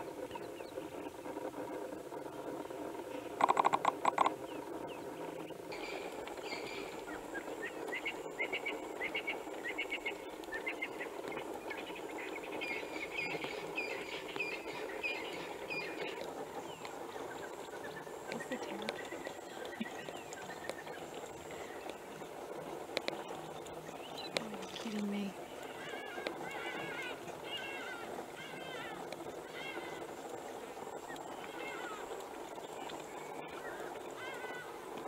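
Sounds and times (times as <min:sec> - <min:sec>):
bird chirping: 0:00.0 - 0:01.3, 0:03.3 - 0:34.5
outdoor background hiss: 0:00.0 - 0:35.0.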